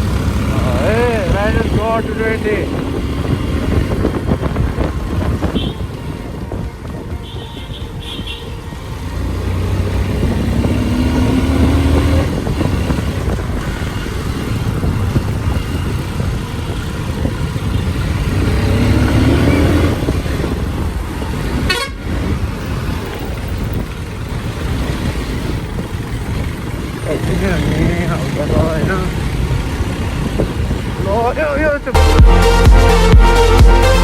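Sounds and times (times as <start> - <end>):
motorcycle engine accelerating: 0.0 - 6.6, 8.9 - 21.6, 22.2 - 31.0
road rumble: 0.0 - 34.0
wind: 0.0 - 34.0.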